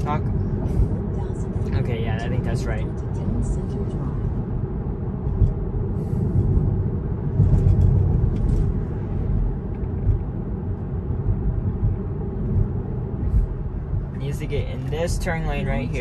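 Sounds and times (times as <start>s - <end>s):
road and tyre rumble inside car: 0.0s - 16.0s.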